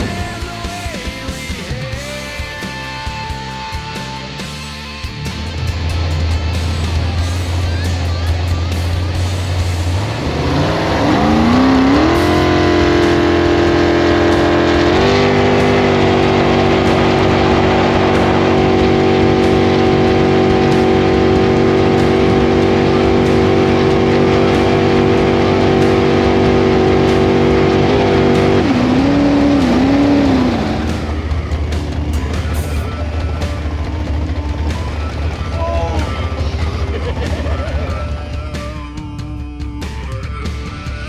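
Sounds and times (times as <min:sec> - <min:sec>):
boat engine revving: 0:00.0 - 0:41.0.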